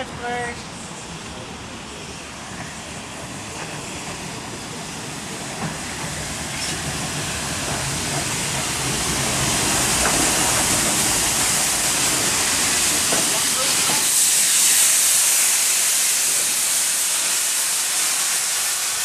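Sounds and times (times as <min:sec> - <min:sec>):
steam locomotive hiss and running: 0:00.0 - 0:19.0.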